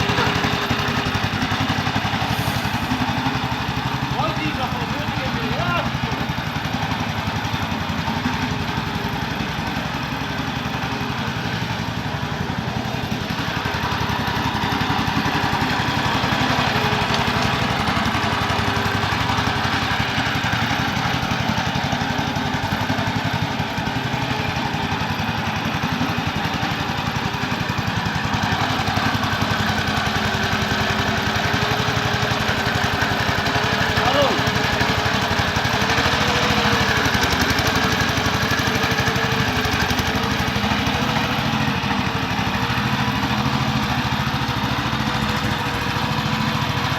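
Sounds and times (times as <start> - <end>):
small engine running: 0.0 - 46.9.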